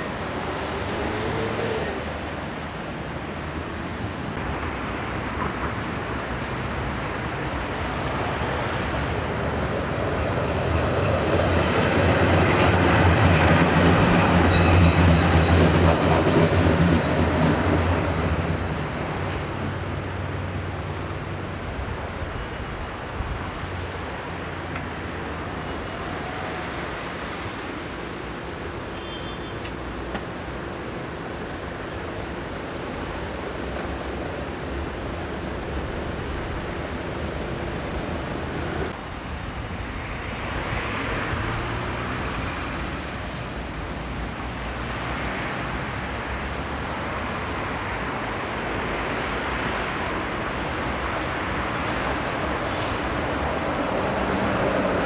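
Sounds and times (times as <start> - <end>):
tram running on rails: 0.0 - 55.0.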